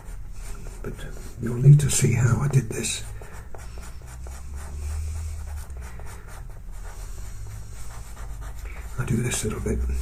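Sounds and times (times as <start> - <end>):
pastel pencil scratching on paper: 0.0 - 10.0.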